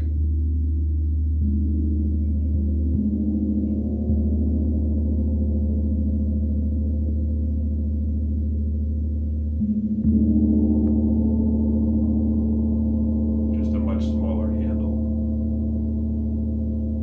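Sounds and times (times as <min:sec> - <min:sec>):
gong droning: 0:00.0 - 0:17.0.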